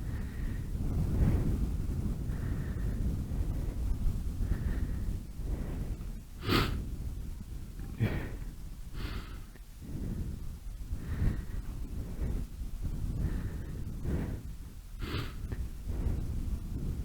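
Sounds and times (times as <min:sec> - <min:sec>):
person breathing hard: 0:00.0 - 0:17.0
steady low rumble: 0:00.0 - 0:17.0.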